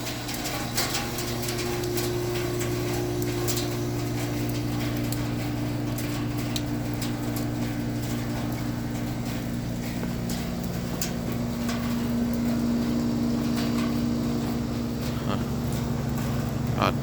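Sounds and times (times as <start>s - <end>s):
heat pump humming: 0.0s - 17.0s.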